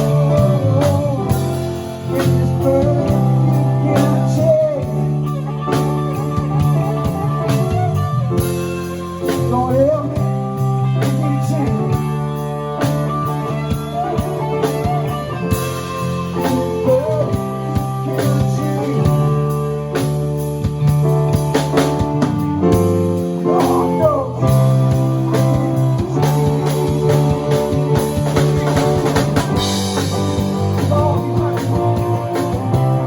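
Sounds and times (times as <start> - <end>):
drums: 0.0 - 33.0
electric guitar lead: 0.0 - 33.0
held guitar chords: 0.0 - 33.0.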